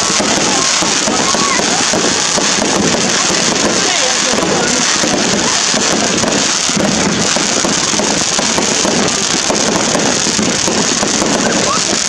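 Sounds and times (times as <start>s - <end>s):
continuous rushing noise: 0.0s - 12.0s
fireworks crackling: 0.0s - 12.0s.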